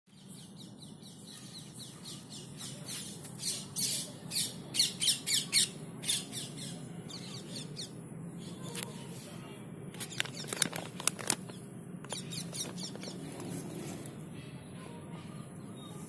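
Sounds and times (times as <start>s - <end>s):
small bird chirping: 0.1s - 9.1s, 10.0s - 14.0s.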